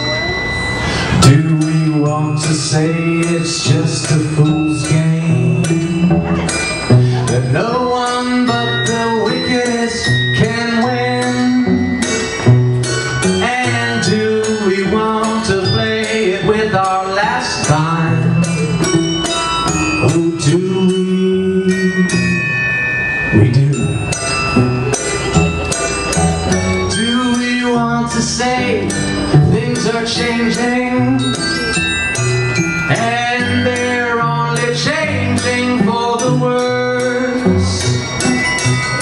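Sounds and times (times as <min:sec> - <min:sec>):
plucked or struck accents: 0:00.0 - 0:39.0
small band playing: 0:00.0 - 0:39.0.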